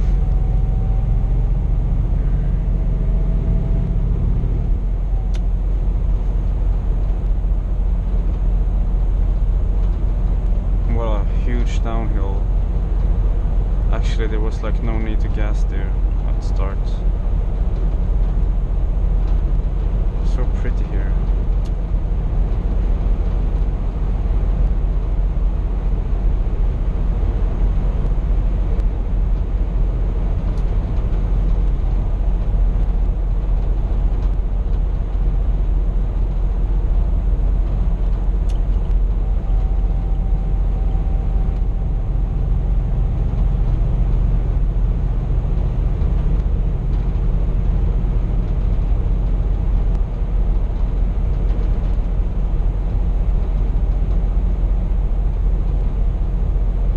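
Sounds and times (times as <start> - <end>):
road noise: 0.0 - 56.9
truck engine drone from cab: 0.0 - 56.9.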